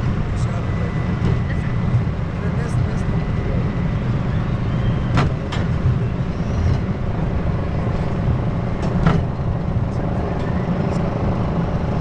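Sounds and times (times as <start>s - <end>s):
roller coaster rumble: 0.0s - 12.0s
wind rush: 0.0s - 12.0s.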